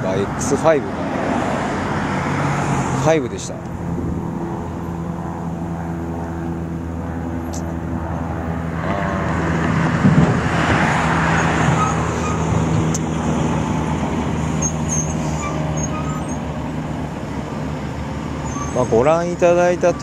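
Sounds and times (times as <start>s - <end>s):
traffic engine drone: 0.0s - 20.0s
vehicle passing close by: 0.0s - 20.0s.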